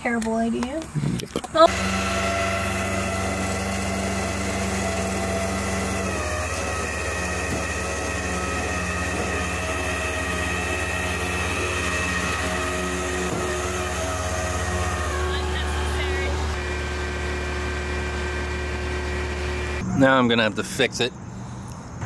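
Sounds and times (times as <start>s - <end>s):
truck engine idling: 1.6s - 22.0s.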